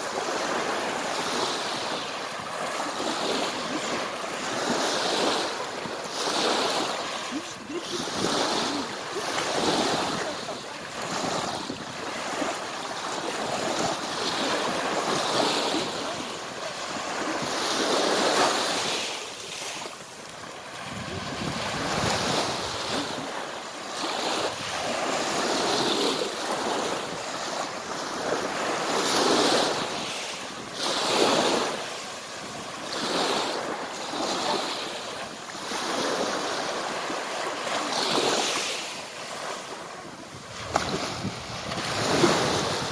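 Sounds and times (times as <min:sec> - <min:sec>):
waves washing up a pebble beach: 0:00.0 - 0:42.9.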